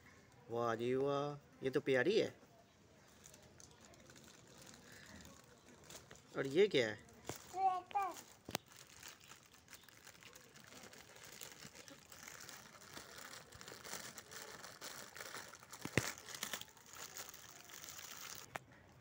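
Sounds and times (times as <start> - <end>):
plastic bag crinkling: 3.0 - 18.6.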